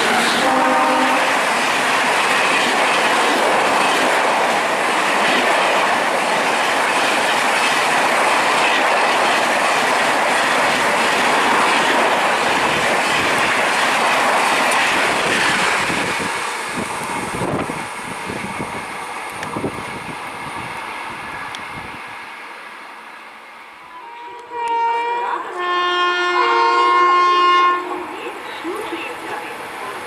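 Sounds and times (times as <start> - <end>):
train rushing past: 0.0 - 30.0.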